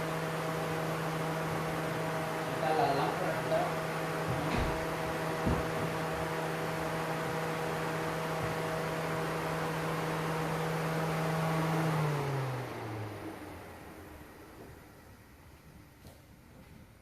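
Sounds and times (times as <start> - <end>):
motor spinning down: 0.0 - 14.7.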